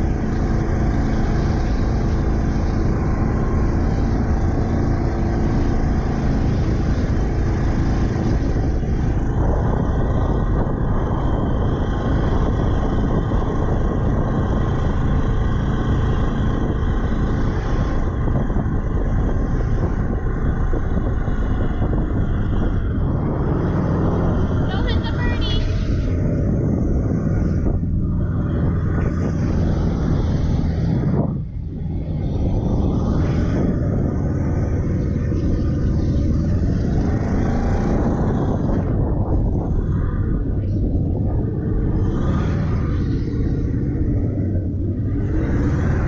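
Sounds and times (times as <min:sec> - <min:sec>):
jet boat engine running: 0:00.0 - 0:46.0.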